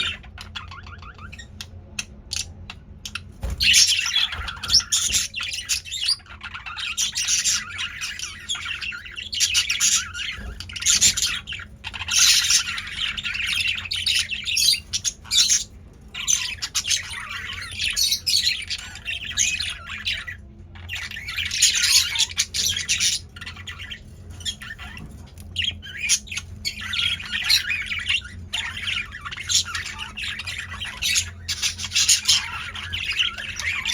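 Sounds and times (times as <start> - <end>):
budgerigars chattering and squawking: 0.0 - 33.9.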